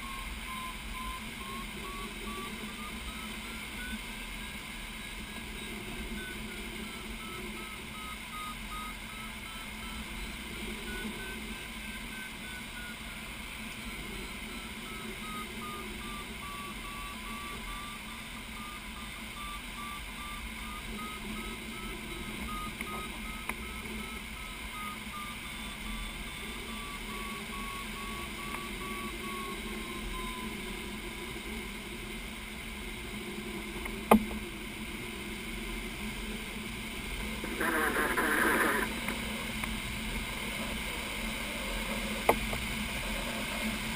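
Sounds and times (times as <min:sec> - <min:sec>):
variometer beeping: 0:00.0 - 0:32.2, 0:33.0 - 0:43.9.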